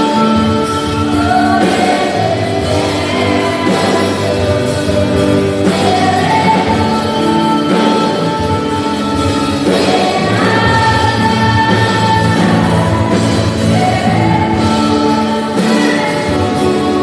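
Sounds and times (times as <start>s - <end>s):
group singing gospel: 0.0s - 17.0s
instrumental accompaniment: 0.0s - 17.0s.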